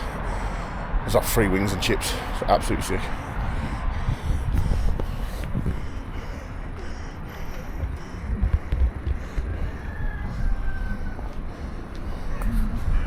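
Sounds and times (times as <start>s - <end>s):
faint street noise: 0.0s - 13.0s
wind buffeting microphone: 0.0s - 13.0s.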